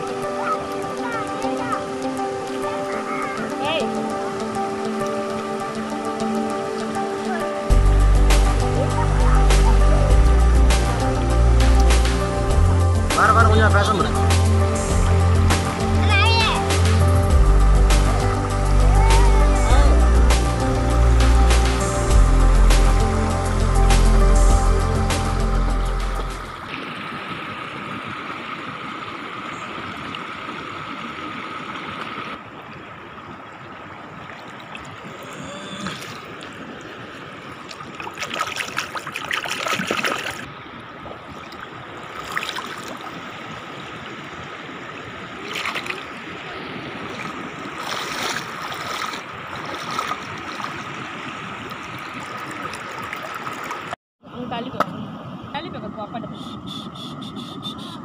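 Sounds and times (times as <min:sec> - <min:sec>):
river water trickling: 0:00.0 - 0:58.0.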